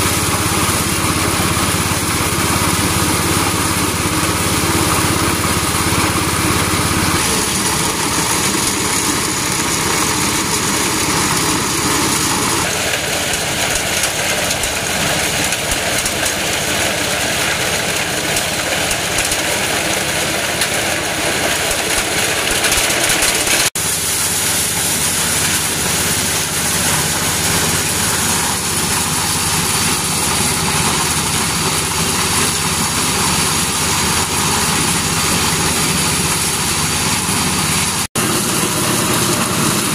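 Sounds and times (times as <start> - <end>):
engine-driven corn sheller running: 0.0 - 39.9.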